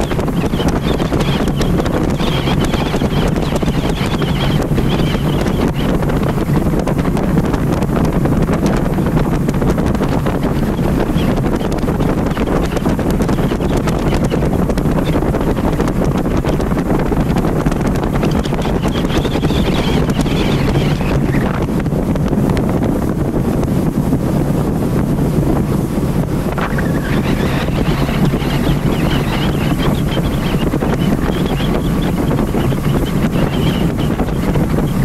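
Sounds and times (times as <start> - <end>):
boat engine droning: 0.0 - 35.0
water rushing past hull: 0.0 - 35.0
wind buffeting microphone: 0.0 - 35.0.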